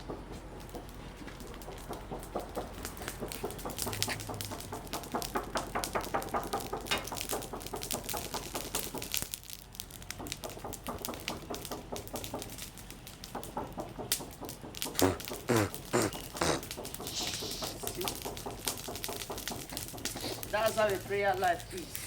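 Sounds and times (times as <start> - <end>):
charcoal fire crackling: 0.0 - 22.0.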